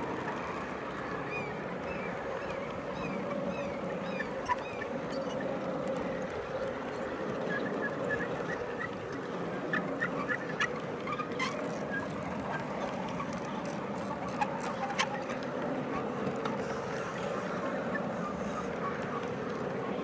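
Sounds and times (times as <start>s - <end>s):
wheels clicking over rail joints: 0.0s - 20.0s.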